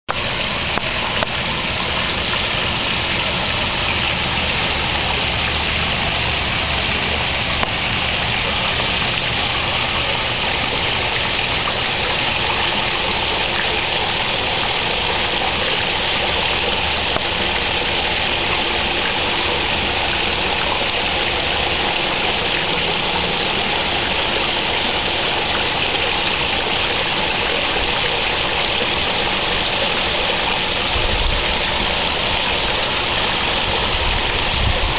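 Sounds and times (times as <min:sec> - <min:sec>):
low steady hum: 0:00.1 - 0:34.9
water splashing in a pond: 0:00.1 - 0:34.9.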